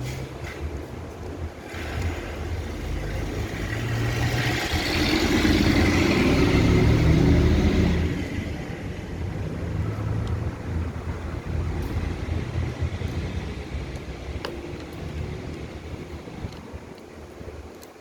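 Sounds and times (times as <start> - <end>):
vehicle engine passing by: 1.7 - 16.9.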